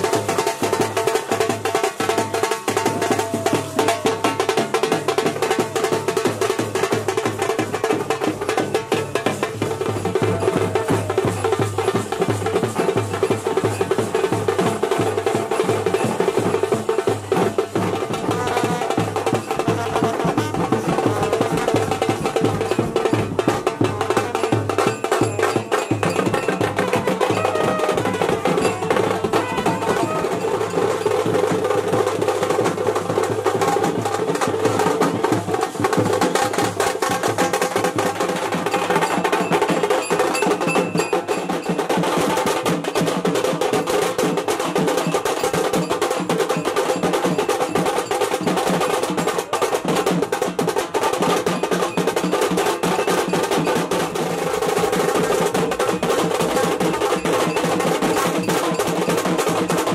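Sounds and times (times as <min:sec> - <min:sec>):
rhythmic drumming: 0:00.0 - 0:59.9.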